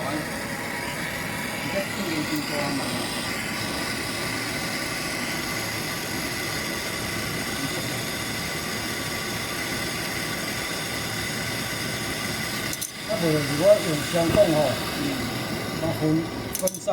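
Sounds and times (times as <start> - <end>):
gas torch hissing: 0.0 - 16.9.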